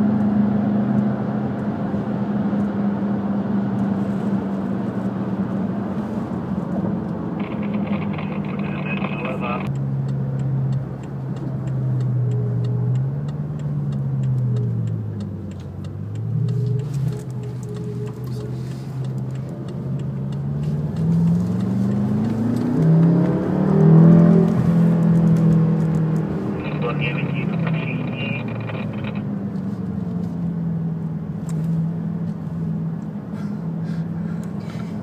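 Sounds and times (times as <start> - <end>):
car engine from inside cabin: 0.0 - 35.0.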